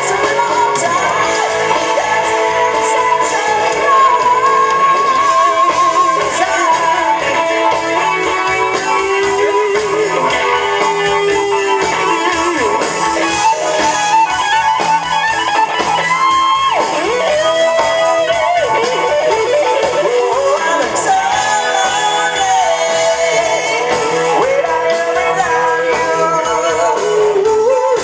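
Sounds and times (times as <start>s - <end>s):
electric guitar melody: 0.0s - 28.0s
live rock band playing: 0.0s - 28.0s.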